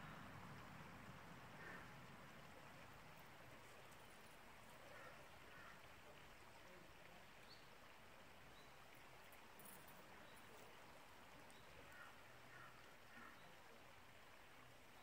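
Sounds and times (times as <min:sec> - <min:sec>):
distant stream rushing: 0:00.0 - 0:15.0.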